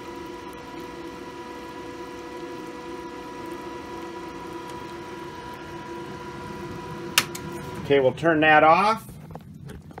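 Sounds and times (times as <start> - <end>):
cooling fan noise: 0.0 - 10.0
electrical hum with whine: 0.0 - 10.0.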